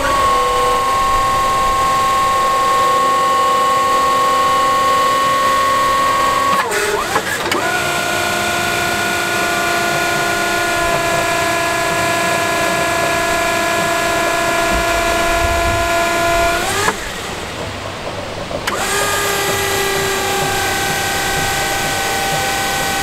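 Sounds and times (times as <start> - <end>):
hydraulic pump motor whining: 0.0 - 23.0.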